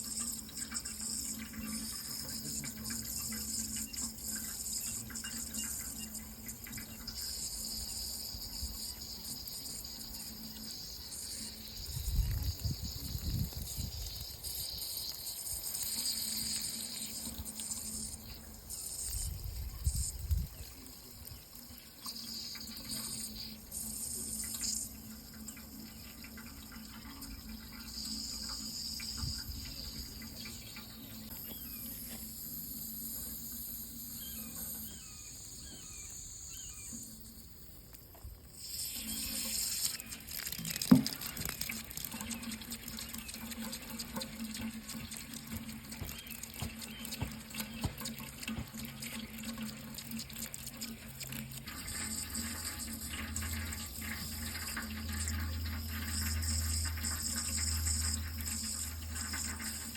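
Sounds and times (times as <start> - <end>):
tap water running into sink: 0.0 - 32.4, 38.1 - 59.9
faint steady hum: 0.0 - 59.9.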